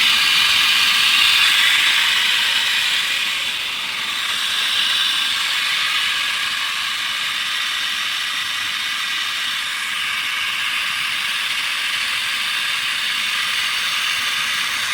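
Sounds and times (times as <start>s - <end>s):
milling machine hissing: 0.0s - 14.9s.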